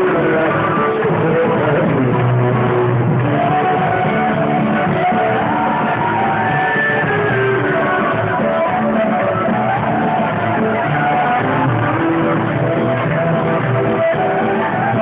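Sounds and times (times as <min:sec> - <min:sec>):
dance music with plucked strings: 0:00.0 - 0:15.0.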